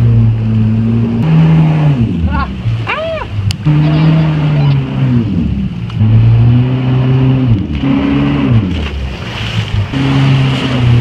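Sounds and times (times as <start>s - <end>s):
jet ski engine revving: 0.0s - 11.0s
water rushing: 0.0s - 11.0s.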